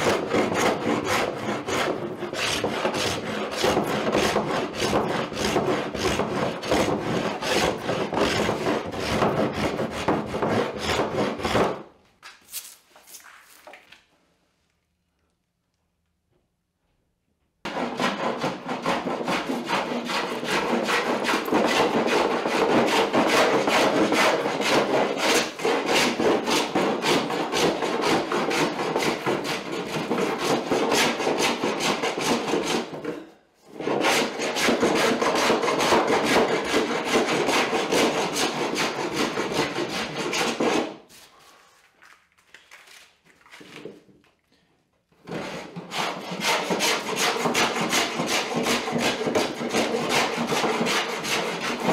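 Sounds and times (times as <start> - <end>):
hand plane shaving wood: 0.0 - 11.9, 17.7 - 41.3, 45.2 - 51.9.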